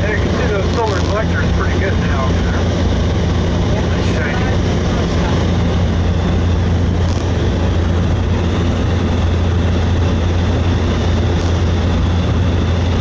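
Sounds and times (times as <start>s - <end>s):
propeller plane cabin drone: 0.0s - 13.0s.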